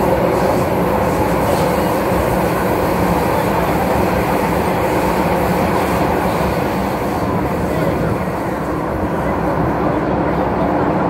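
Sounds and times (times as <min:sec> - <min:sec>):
train wheels on rail: 0:00.0 - 0:11.0.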